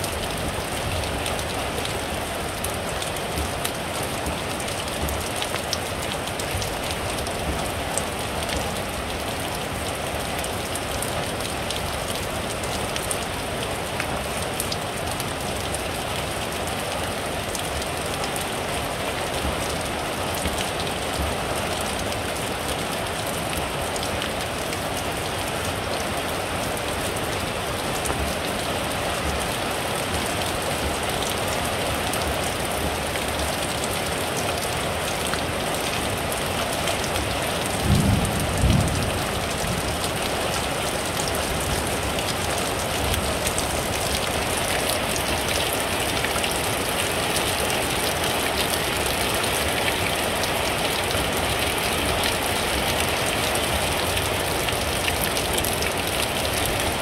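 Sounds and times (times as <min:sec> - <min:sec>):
heavy rain splashing into water: 0:00.0 - 0:57.0.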